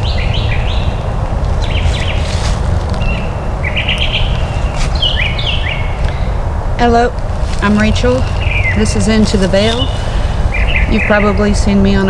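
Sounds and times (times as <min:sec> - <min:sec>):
low rumble: 0:00.0 - 0:12.0
songbird singing: 0:00.0 - 0:12.0.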